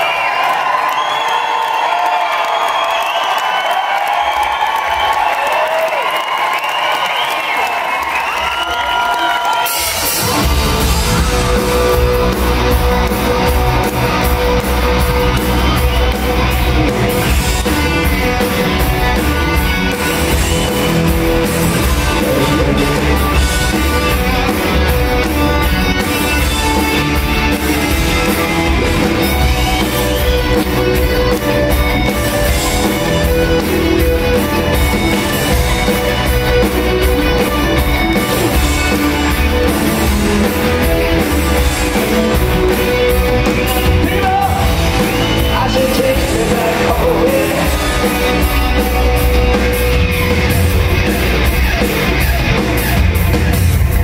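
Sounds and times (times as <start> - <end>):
crowd cheering: 0.0 - 54.0
live rock band playing: 9.5 - 54.0.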